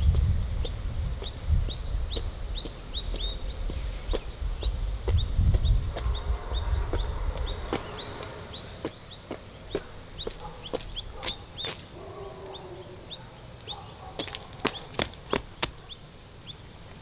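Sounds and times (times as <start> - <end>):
sharp bird calls: 0.0 - 16.8
birds chirping: 0.0 - 17.0.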